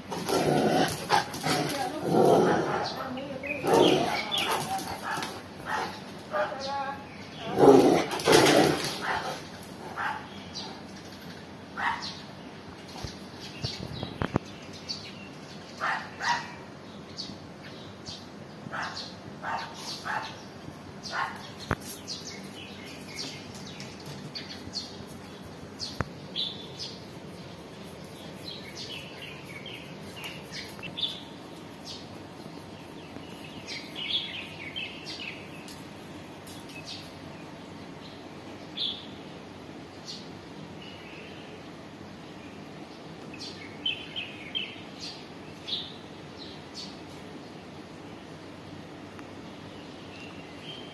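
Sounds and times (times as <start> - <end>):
small birds chirping: 0.0 - 50.9
steady outdoor hiss: 0.0 - 50.9.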